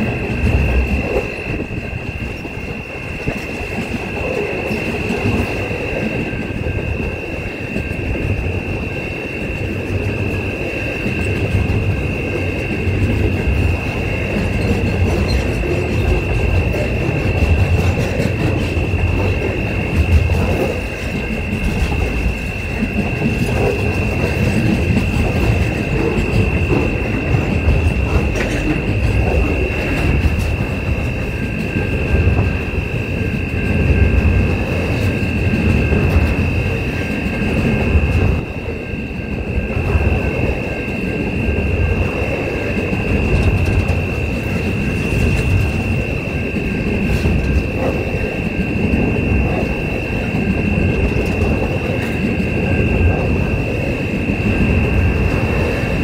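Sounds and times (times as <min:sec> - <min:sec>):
high-pitched whine: 0:00.0 - 0:56.0
train wheels rumbling on rail: 0:00.0 - 0:56.0.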